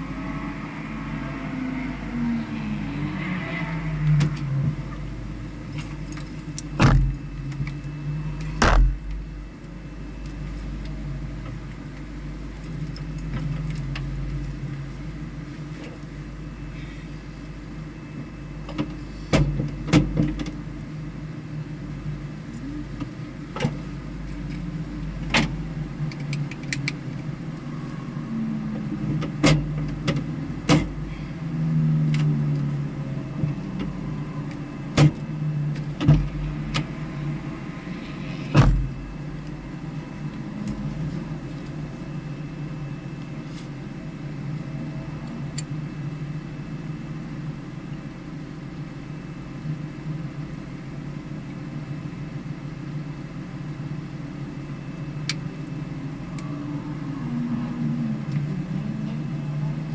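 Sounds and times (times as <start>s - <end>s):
vehicle engine running low: 0.0s - 59.9s.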